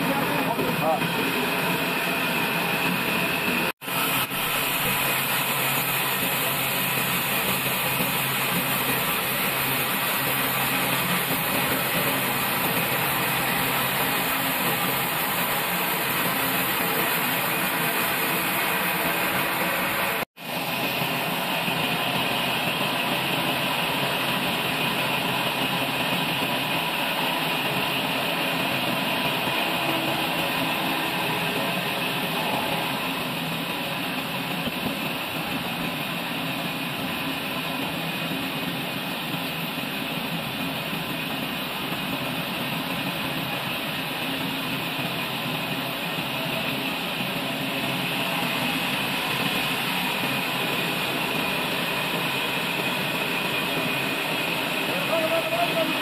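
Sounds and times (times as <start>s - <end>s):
bandsaw sawmill running: 0.0s - 56.0s.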